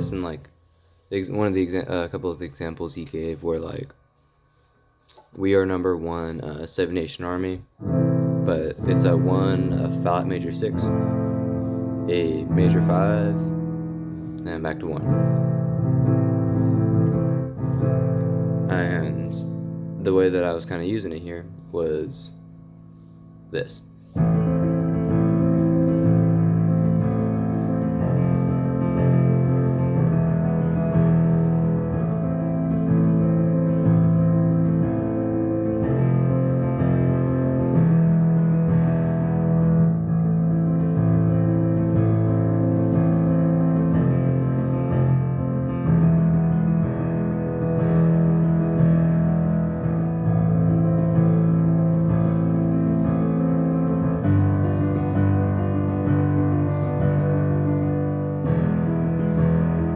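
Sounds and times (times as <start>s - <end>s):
keyboard playing sustained chords: 0.0s - 0.5s, 7.8s - 59.9s.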